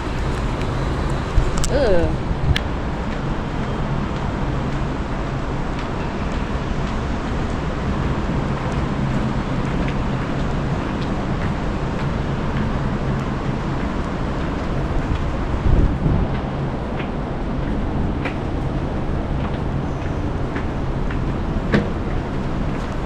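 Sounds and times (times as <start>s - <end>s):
urban traffic hum: 0.0s - 23.0s
wind buffeting microphone: 0.0s - 23.0s.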